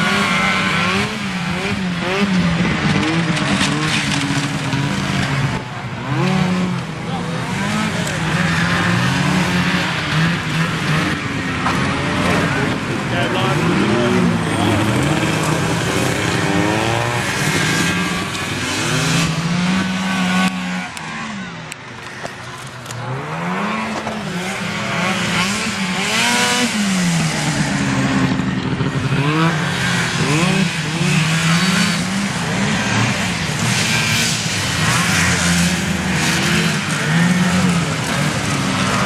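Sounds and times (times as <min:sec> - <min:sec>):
snowmobile engines revving: 0:00.0 - 0:39.0.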